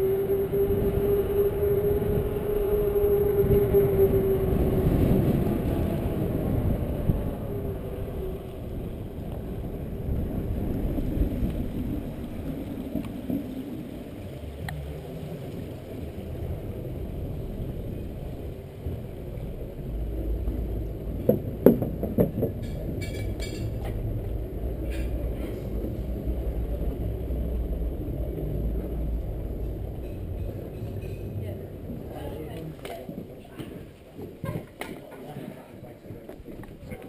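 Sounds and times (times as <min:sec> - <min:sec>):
bike tyre noise: 0:00.0 - 0:31.2
wind on microphone: 0:00.0 - 0:37.0.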